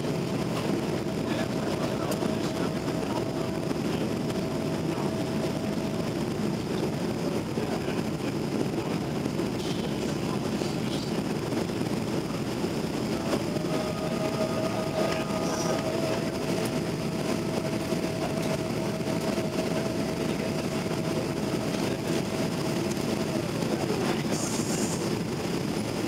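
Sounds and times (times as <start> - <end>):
jet engine and airflow rumble: 0.0 - 26.0
steady whine: 0.0 - 26.0.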